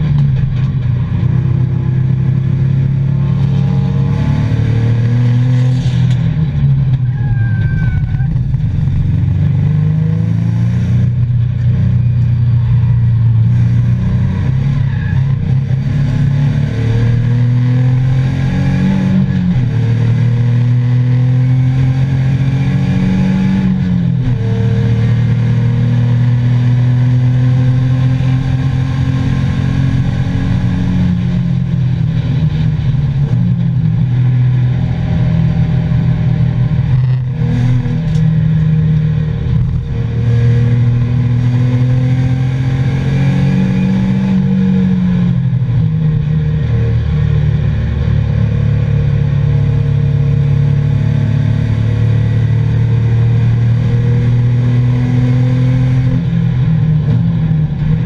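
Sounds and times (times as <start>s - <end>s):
car engine revving through gears: 0.0s - 7.1s, 8.3s - 58.0s.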